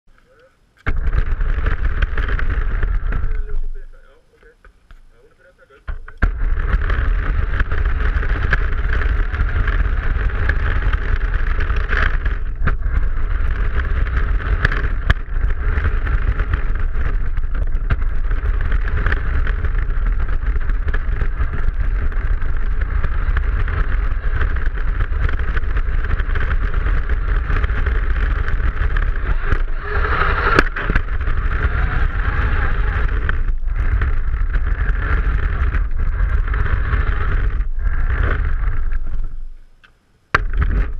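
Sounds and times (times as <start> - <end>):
low rumble from wheels: 0.1 - 40.9
radio-controlled car motor whine: 0.8 - 4.2, 5.8 - 39.6.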